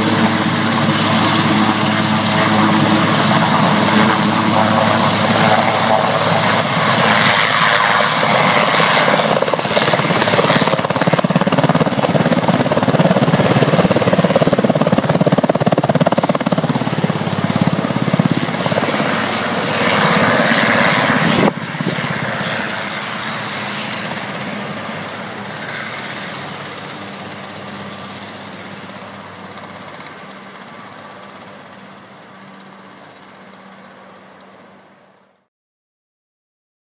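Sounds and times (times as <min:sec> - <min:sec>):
helicopter rotors and engines: 0:00.0 - 0:35.5.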